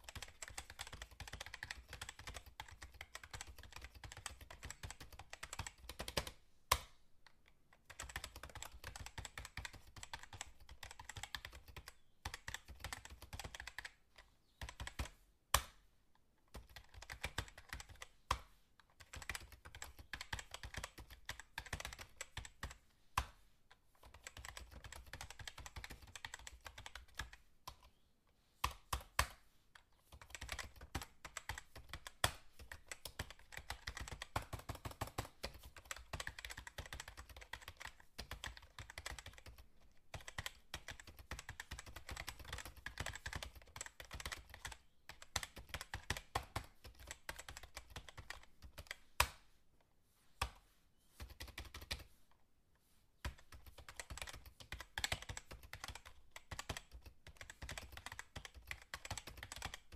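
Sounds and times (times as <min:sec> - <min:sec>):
fast typing on keyboard: 0:00.0 - 0:06.4, 0:07.8 - 0:14.0, 0:14.6 - 0:15.2, 0:16.5 - 0:18.1, 0:19.0 - 0:22.8, 0:24.0 - 0:27.9, 0:30.1 - 0:49.0, 0:51.2 - 0:52.1, 0:53.2 - 0:59.9.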